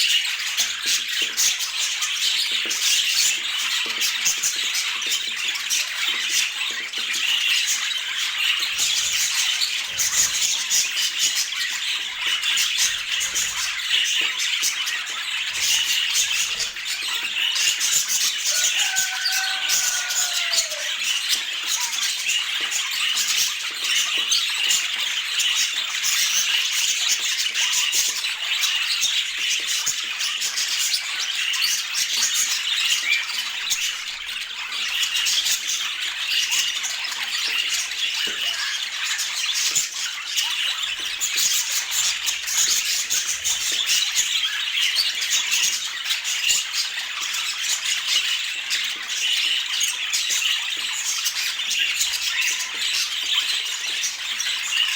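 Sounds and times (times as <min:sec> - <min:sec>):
budgerigars chattering and squawking: 0:00.0 - 0:54.9.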